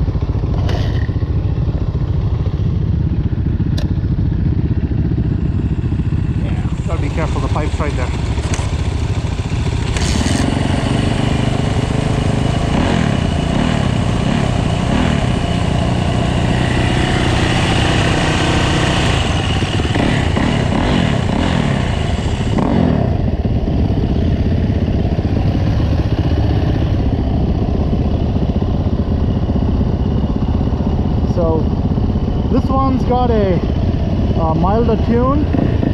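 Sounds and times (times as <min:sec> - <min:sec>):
motorbike engine revving: 0:03.0 - 0:31.8, 0:32.4 - 0:35.9.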